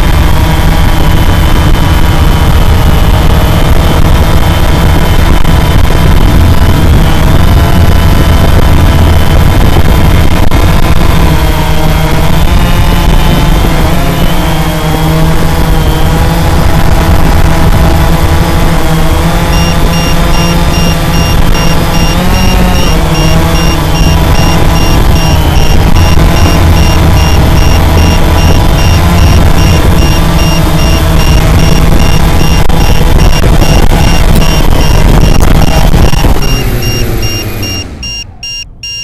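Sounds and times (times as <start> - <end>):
rotor wash rumble on microphone: 0.0 - 38.0
drone motors whining: 0.0 - 39.0.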